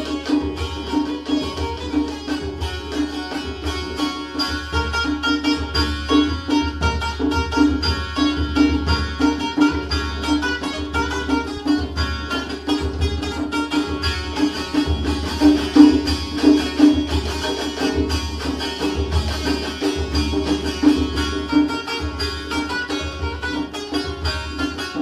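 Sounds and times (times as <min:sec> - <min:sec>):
hand drum beat: 0:00.0 - 0:25.0
plucked string instrument melody: 0:00.0 - 0:25.0.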